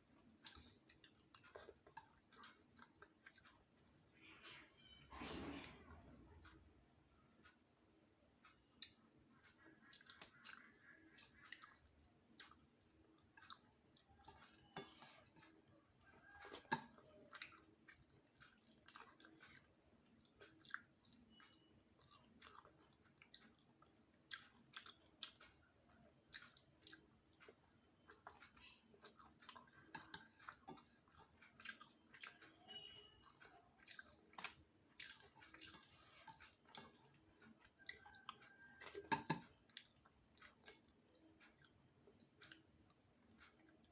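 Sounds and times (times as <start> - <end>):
person chewing: 0.1 - 4.4, 8.4 - 43.9.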